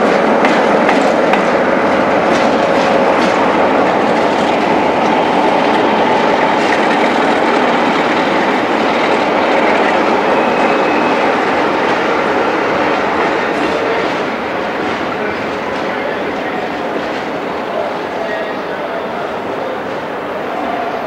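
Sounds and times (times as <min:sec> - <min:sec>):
diesel locomotive engine and wheels: 0:00.0 - 0:21.0.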